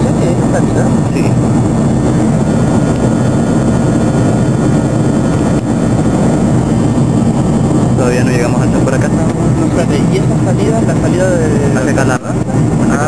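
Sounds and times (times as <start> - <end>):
airplane cabin roar: 0.0 - 13.0.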